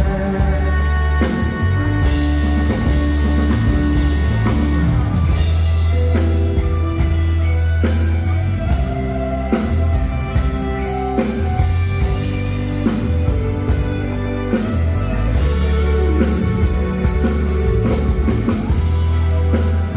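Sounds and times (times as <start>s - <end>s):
bass: 0.0s - 19.9s
drum kit beat: 0.0s - 19.9s
keyboard: 0.0s - 19.9s.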